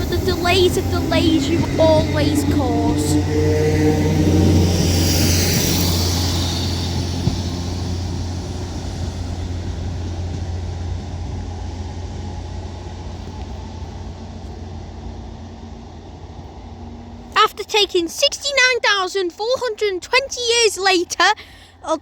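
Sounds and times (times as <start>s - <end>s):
train engine droning: 0.0s - 22.0s.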